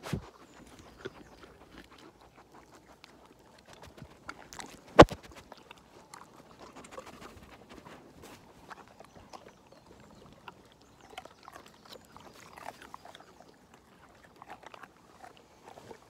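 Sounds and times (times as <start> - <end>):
horse chewing carrot: 0.0 - 16.0.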